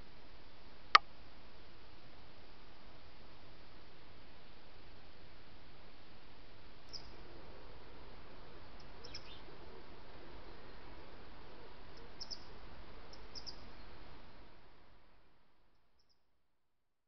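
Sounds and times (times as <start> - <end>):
steady background hiss: 0.0 - 16.4.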